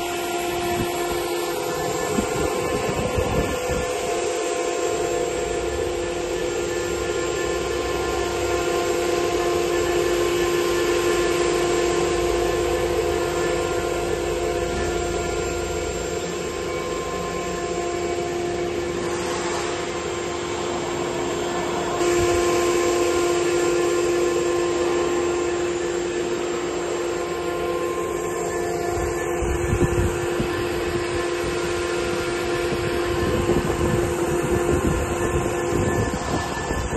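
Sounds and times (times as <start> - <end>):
end mill cutting wood: 0.0 - 36.9
router spindle whine: 0.0 - 36.9.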